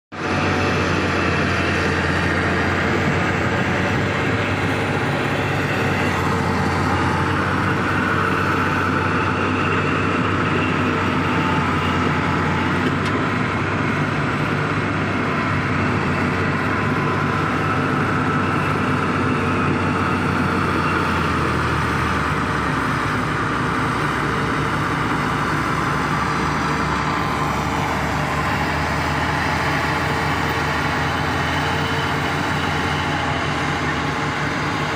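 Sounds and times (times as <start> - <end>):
bulldozer diesel engine running: 0.1 - 34.9.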